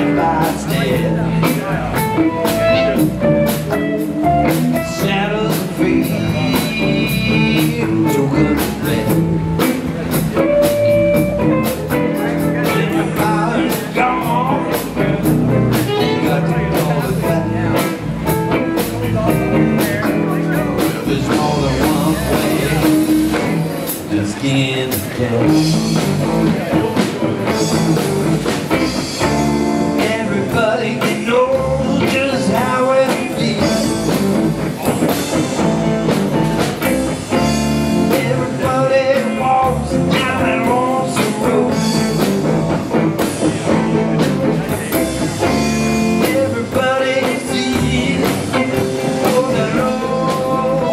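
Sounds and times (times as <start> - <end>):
bass: 0.0 - 50.9
drum kit: 0.0 - 50.9
electric guitar: 0.0 - 50.9.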